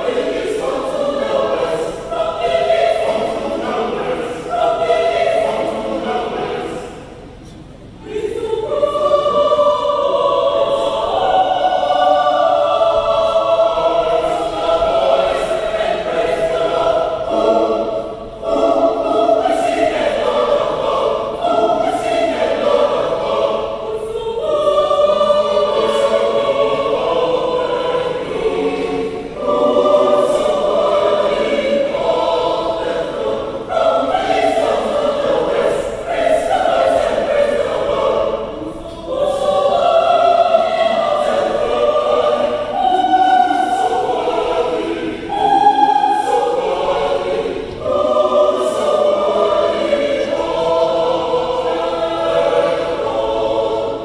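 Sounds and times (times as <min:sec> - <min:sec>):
large choir singing: 0:00.0 - 0:54.0.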